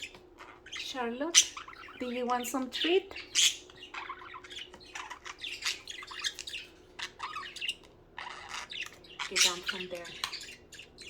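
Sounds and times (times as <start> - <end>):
budgerigars chattering and squawking: 0.0 - 11.0.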